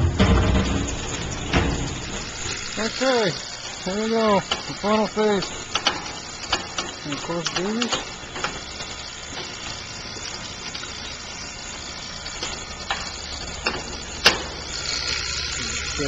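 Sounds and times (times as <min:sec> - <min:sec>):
steady whine: 0:00.0 - 0:16.0
vacuum pump droning: 0:00.0 - 0:16.0
gauge valves clicking: 0:00.7 - 0:16.0.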